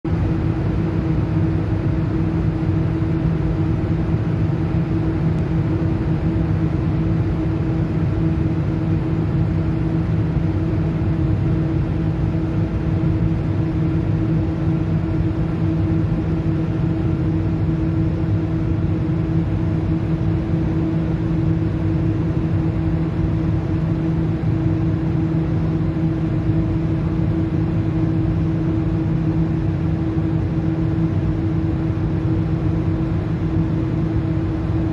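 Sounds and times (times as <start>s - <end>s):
steady humming tones: 0.1s - 34.9s.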